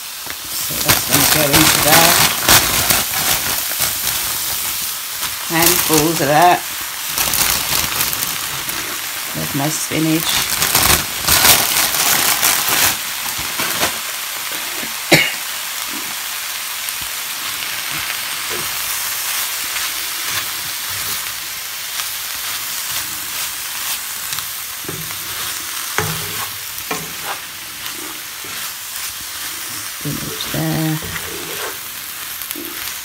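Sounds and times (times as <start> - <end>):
vegetables sizzling in pan: 0.0 - 33.0.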